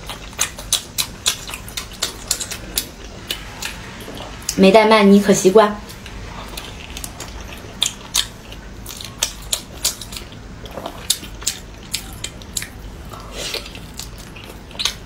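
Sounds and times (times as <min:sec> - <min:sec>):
person chewing food: 0:00.0 - 0:04.6, 0:05.8 - 0:15.0.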